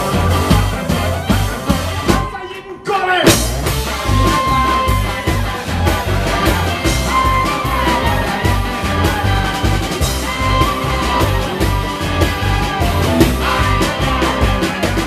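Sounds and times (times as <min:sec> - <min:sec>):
pulsing bass beat: 0:00.0 - 0:02.4, 0:03.3 - 0:15.0
live band music: 0:00.0 - 0:15.0.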